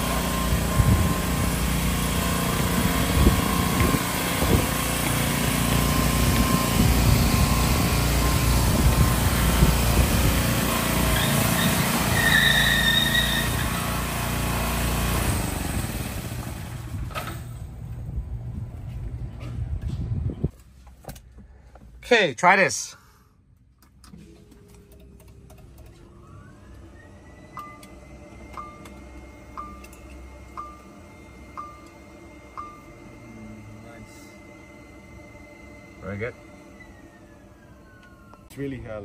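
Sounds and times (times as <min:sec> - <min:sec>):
engine low rumble: 0:00.0 - 0:22.1, 0:23.0 - 0:39.0.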